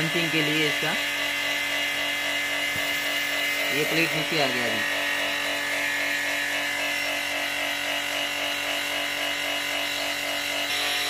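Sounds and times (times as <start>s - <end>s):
vacuum pump droning: 0.0s - 11.0s.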